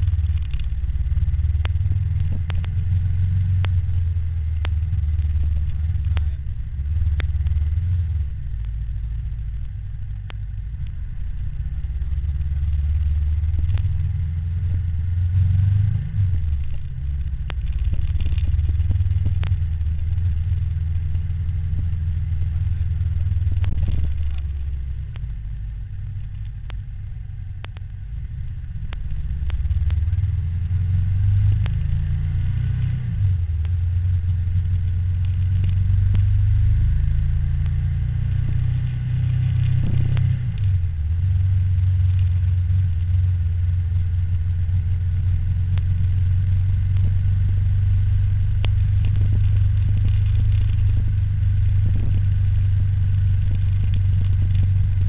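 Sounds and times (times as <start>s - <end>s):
vehicle rumble on road: 0.0s - 55.0s.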